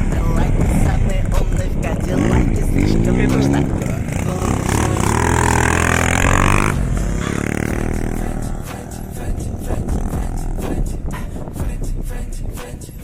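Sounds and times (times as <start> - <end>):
motocross bike engine revving: 0.0 - 12.2.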